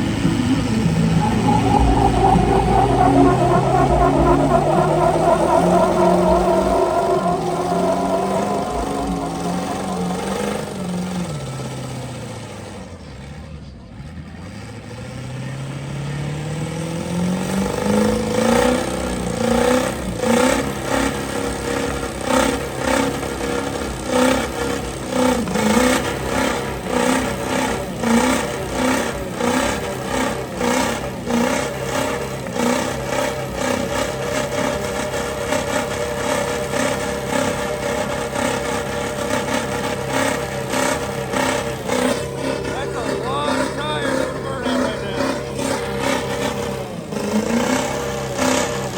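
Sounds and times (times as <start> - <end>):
truck engine revving: 0.0 - 13.3, 14.0 - 48.9.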